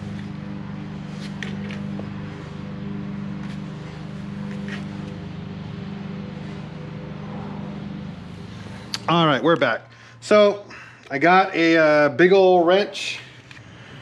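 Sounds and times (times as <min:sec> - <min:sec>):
machine humming: 0:00.0 - 0:12.2.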